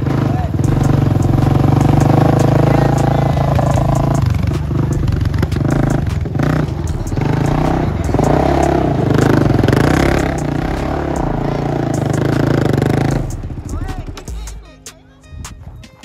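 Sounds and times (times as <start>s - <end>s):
quad engine revving: 0.0s - 14.6s.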